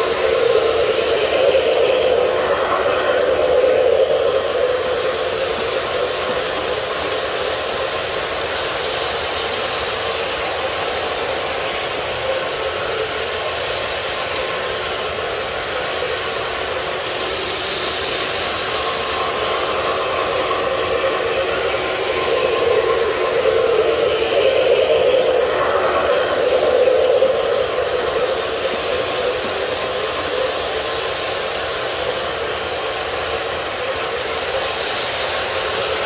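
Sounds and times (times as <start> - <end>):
model trains running: 0.0 - 36.0.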